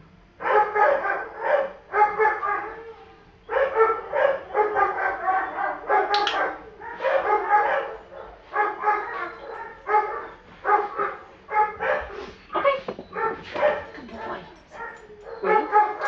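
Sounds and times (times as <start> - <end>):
dog barking and yipping: 0.4 - 2.8, 3.5 - 16.0.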